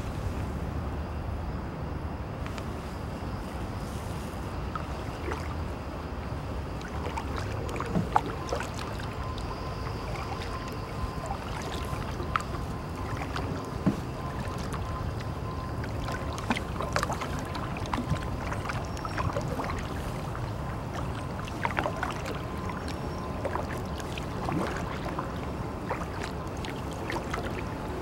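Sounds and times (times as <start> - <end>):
paddle dipping in water: 3.8 - 28.0
small water splashes: 4.6 - 28.0.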